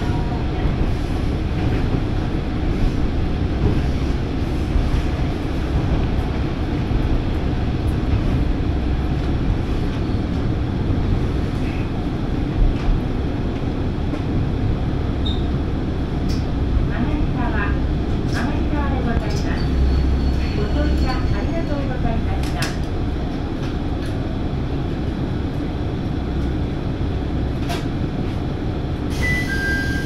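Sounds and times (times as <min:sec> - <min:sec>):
diesel railcar rumbling on rails: 0:00.0 - 0:30.0.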